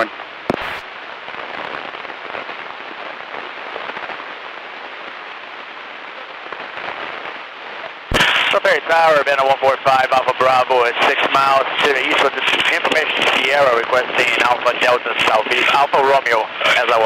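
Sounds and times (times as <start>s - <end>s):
radio hiss and crackle: 0.0s - 17.0s.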